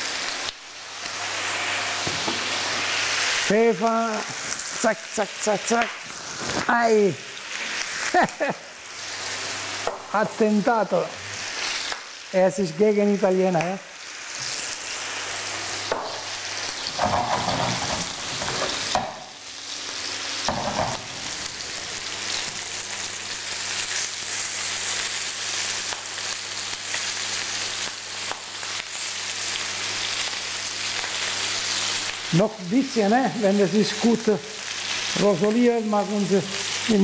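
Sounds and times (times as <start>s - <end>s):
food sizzling in oil: 0.0s - 37.0s.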